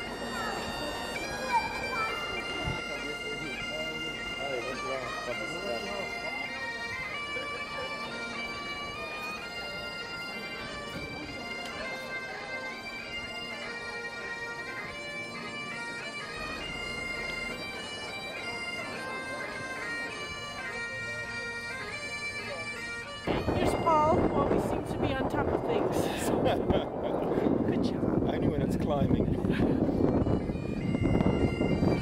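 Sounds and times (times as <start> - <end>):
bagpipes playing a tune: 0.0 - 32.0.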